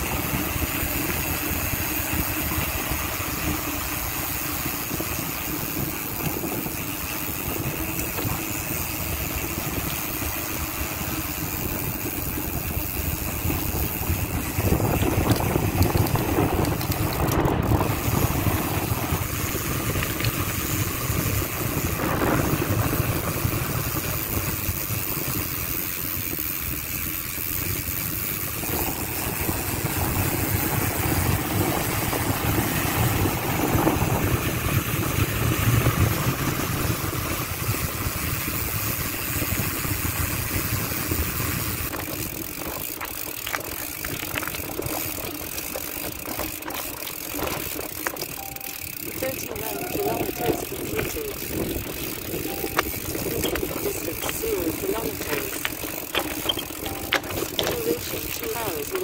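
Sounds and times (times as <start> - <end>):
bicycle road noise: 0.0 - 59.0
wind rumbling on microphone: 0.0 - 59.0.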